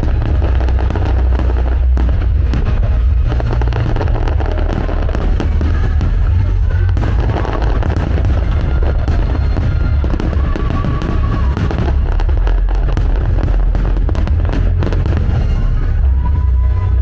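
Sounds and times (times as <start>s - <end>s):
fireworks crackling and popping: 0.0s - 16.7s
loud music with heavy bass: 0.0s - 17.0s.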